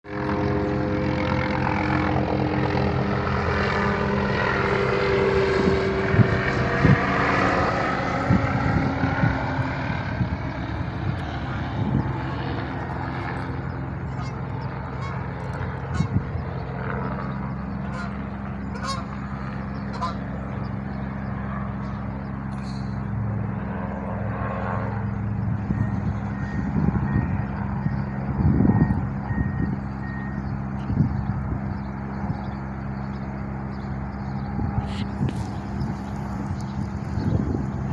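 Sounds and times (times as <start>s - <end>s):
helicopter rotor droning: 0.0s - 37.9s.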